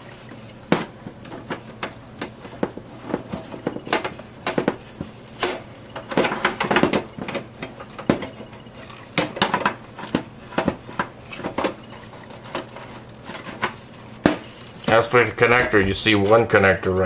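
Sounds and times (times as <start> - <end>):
power supply clicking and rattling: 0.0 - 16.5.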